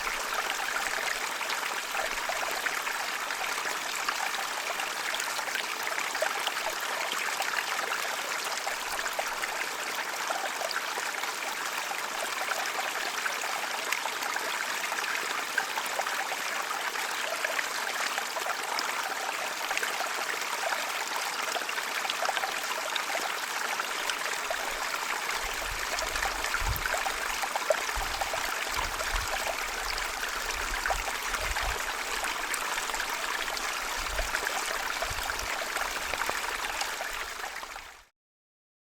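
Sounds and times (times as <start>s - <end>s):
stream trickling and babbling: 0.0s - 38.1s.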